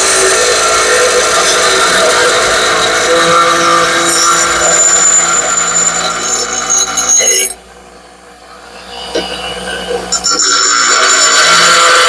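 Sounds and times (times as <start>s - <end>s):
power grinder grinding steel: 0.0s - 7.7s, 9.0s - 12.0s.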